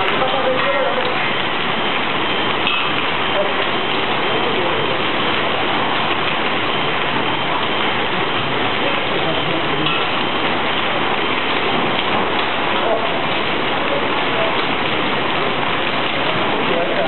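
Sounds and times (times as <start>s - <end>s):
hail and rain on pavement: 0.0s - 17.0s.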